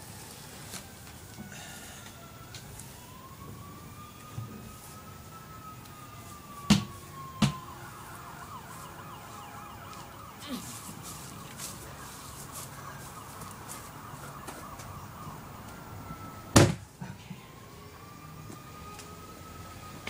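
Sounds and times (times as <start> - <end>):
siren wailing and yelping: 0.4 - 20.0.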